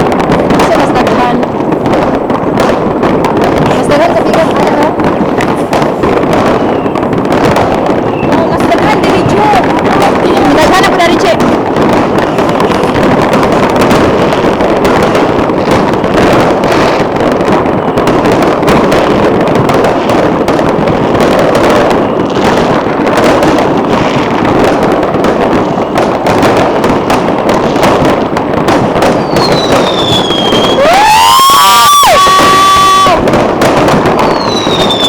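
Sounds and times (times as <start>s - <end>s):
fireworks crackling and banging: 0.0s - 35.0s
whistling fireworks shrieking: 0.0s - 35.0s.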